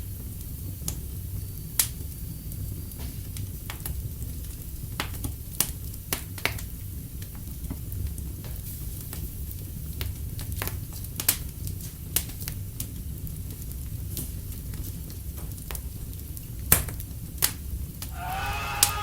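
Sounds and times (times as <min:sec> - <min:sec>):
fire crackles and pops: 0:00.0 - 0:19.0
wood fire rumbling and hissing: 0:00.0 - 0:19.0.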